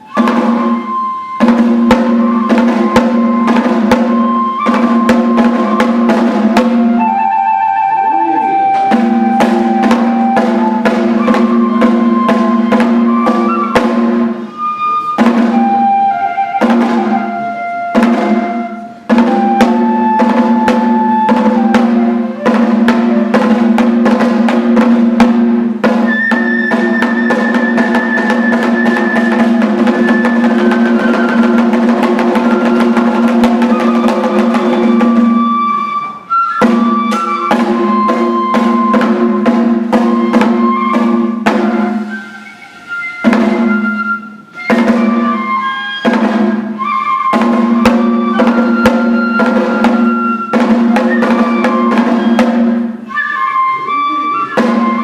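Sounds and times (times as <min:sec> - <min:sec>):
fast continuous drumming: 0:00.0 - 0:07.4, 0:08.6 - 0:42.4, 0:43.2 - 0:53.1
high flute-like melody: 0:00.0 - 0:55.0.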